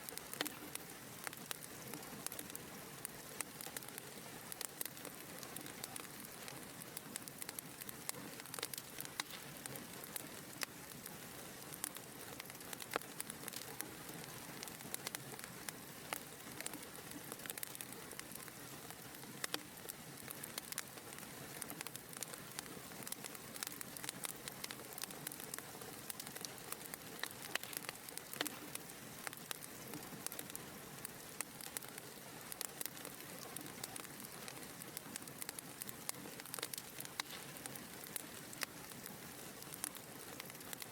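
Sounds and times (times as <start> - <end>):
soft hiss of burning: 0.0 - 40.9
wood fire crackling: 0.0 - 40.9.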